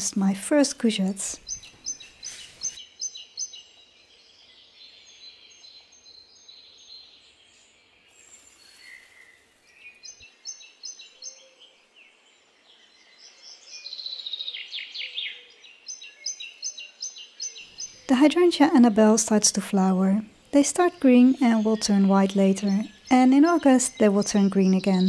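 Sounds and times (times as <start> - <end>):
songbirds singing and chirping: 0.0 - 25.0.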